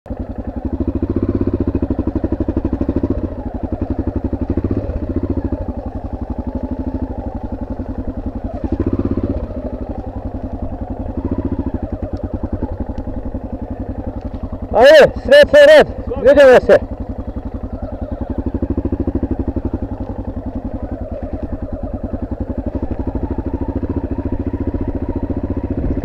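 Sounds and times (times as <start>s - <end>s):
motorcycle engine revving: 0.1s - 26.0s.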